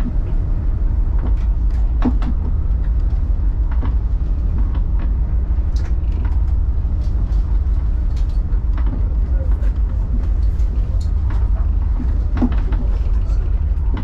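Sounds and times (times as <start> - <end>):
boat engines rumbling: 0.0 - 14.0.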